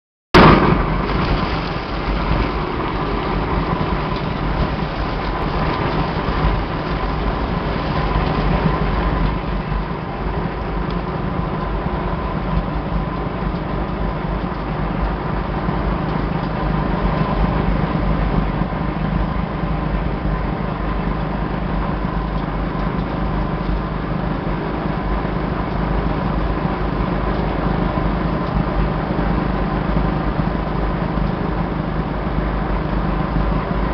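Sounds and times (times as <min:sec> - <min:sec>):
constant machine hum: 0:00.4 - 0:33.9.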